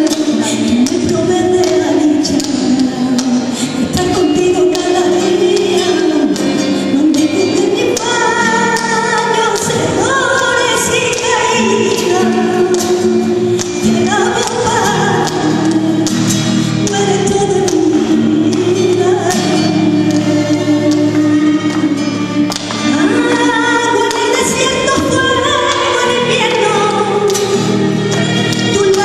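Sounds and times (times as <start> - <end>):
strummed acoustic guitars: 0.0 - 29.0
woman singing into a microphone: 0.0 - 29.0.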